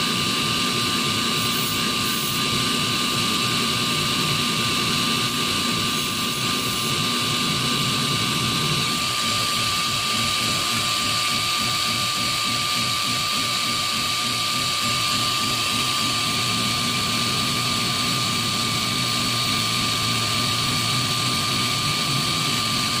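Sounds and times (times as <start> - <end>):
drill bit grinding on stone: 0.0 - 23.0
grinder wheel whining: 0.0 - 23.0.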